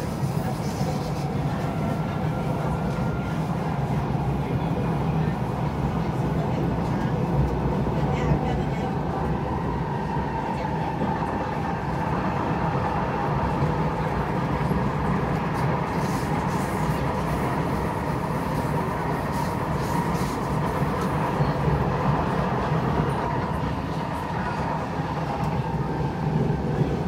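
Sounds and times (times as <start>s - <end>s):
train rumbling on track: 0.0s - 27.0s.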